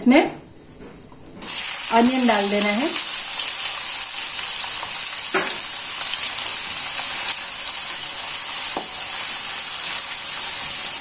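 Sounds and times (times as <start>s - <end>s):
onion sizzling in hot oil: 1.4s - 11.0s.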